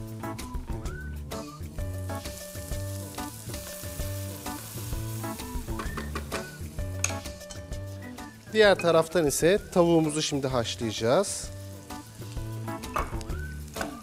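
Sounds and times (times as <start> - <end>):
vegetables sizzling in a pan: 1.7 - 14.0.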